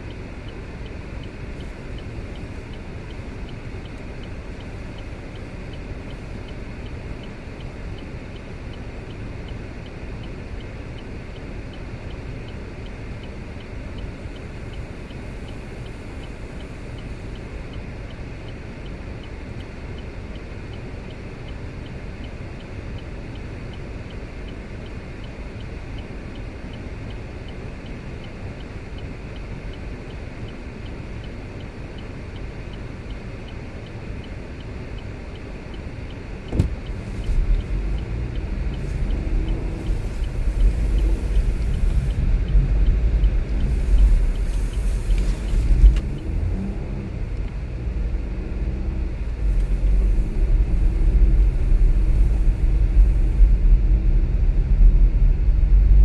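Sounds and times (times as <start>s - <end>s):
faint regular ticking: 0.0s - 56.0s
road and tyre rumble: 0.0s - 56.0s.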